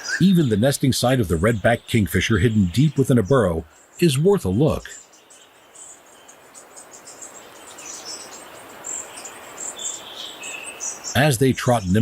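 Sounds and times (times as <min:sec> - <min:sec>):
insects chirping: 0:00.0 - 0:12.0
soft background hiss: 0:00.0 - 0:12.0.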